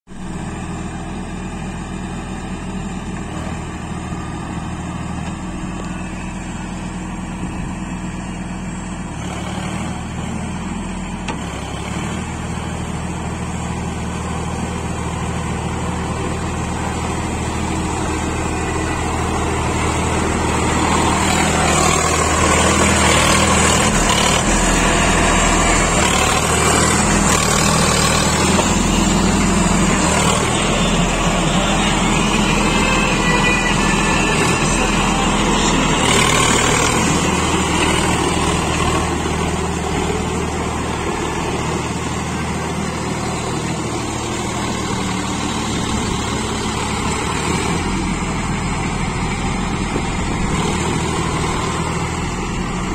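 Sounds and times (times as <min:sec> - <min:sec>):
tractor diesel engine under load: 0:00.1 - 0:52.9
rotavator and tyres churning mud: 0:00.2 - 0:52.9.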